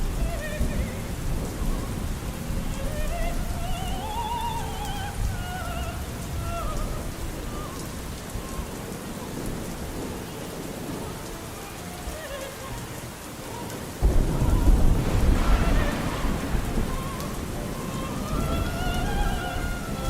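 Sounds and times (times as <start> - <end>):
thunder rumbling: 0.0 - 13.3, 13.9 - 20.0
faint opera singing: 0.0 - 20.0
steady rain falling: 0.0 - 20.0.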